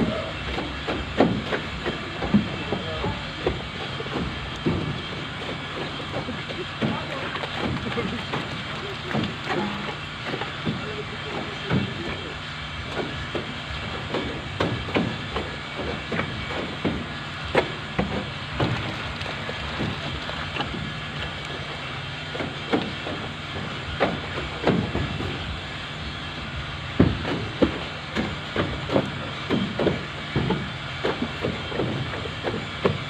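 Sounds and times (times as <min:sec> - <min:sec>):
motor drone: 0:00.0 - 0:33.0.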